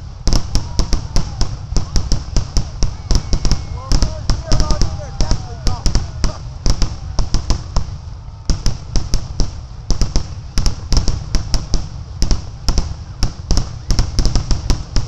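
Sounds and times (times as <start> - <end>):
continuous low rumble: 0.0 - 15.0
fireworks booming and cracking: 0.0 - 15.0.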